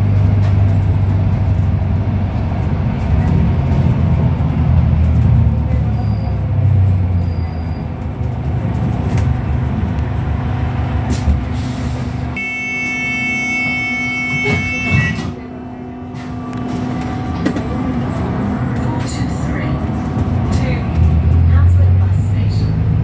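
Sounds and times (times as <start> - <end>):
bus engine low drone: 0.0 - 23.0.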